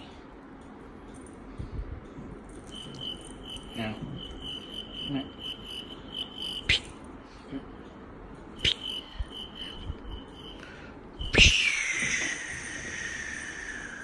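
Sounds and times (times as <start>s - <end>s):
high pulsing chirp: 2.4s - 14.0s.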